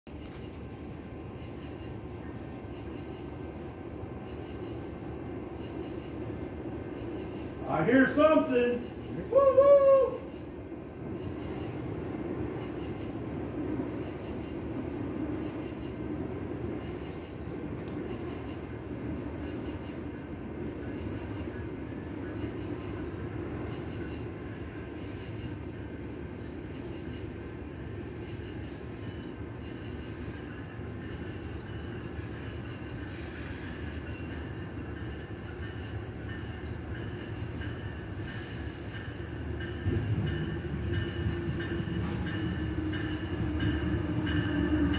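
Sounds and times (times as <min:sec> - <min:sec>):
crickets chirping: 0:00.1 - 0:44.9
distant train rumble: 0:00.1 - 0:44.9.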